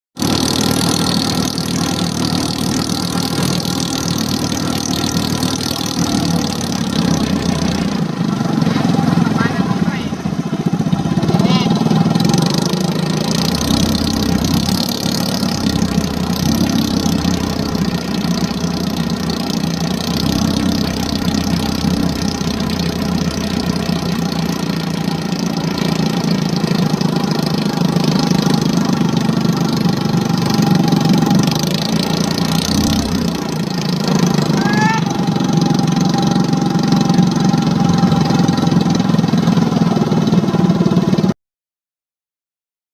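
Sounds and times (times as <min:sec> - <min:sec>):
engine running steadily: 0:00.2 - 0:41.3.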